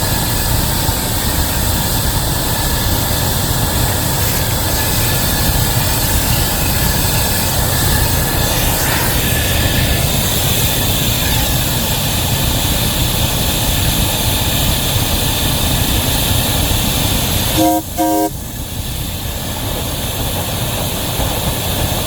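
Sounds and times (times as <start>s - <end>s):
locomotive roaring: 0.0s - 22.0s.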